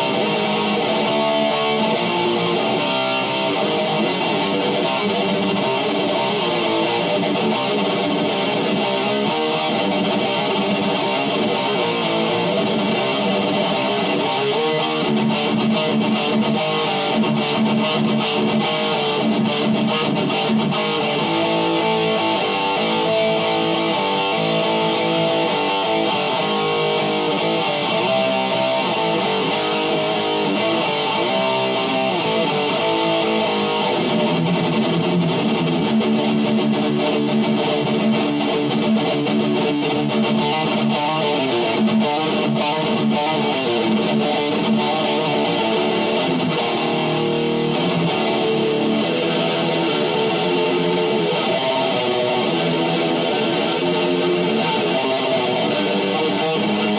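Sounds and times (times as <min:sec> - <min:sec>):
distorted electric guitar riffs: 0:00.0 - 0:56.9.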